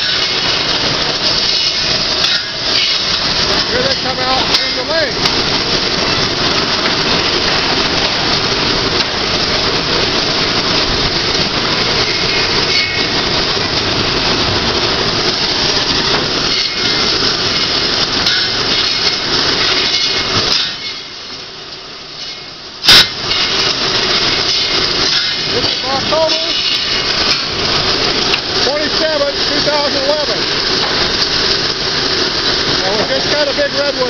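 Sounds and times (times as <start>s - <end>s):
sawmill machinery din: 0.0s - 34.0s.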